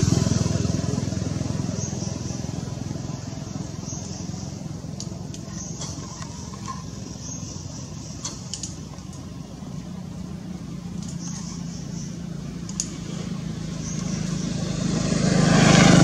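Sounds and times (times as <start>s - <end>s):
low mechanical hum: 0.0s - 15.2s.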